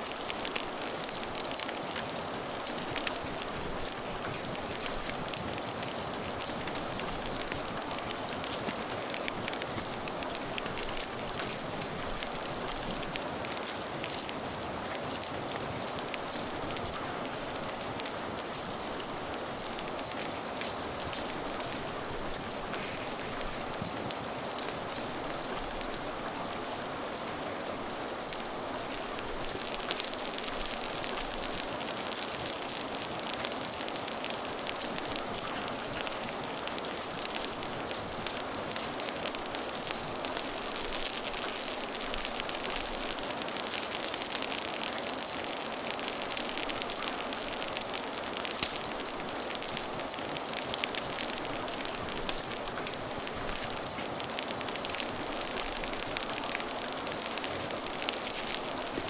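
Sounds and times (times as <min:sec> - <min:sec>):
steady rain falling: 0:00.0 - 0:59.0
wood fire crackling: 0:00.0 - 0:59.0.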